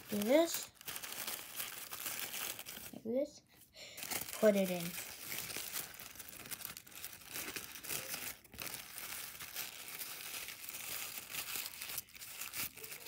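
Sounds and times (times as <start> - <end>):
tissue paper crinkling: 0.0 - 3.0, 4.0 - 13.0.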